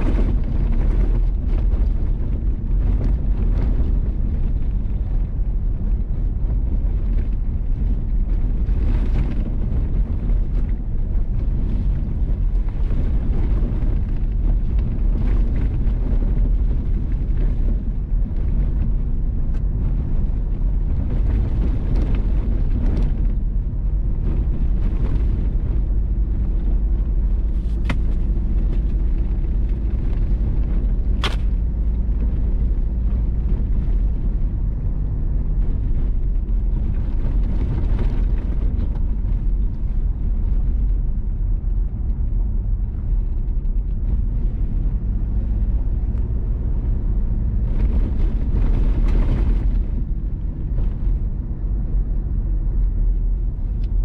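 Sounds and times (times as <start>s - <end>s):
vehicle driving on gravel: 0.0s - 54.0s.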